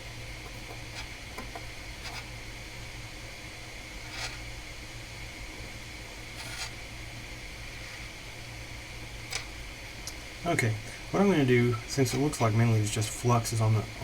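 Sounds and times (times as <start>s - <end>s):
electrical hum and hiss: 0.0s - 14.0s.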